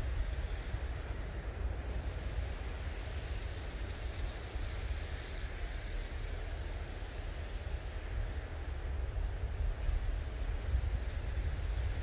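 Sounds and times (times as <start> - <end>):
wind in pine needles: 0.0 - 12.0.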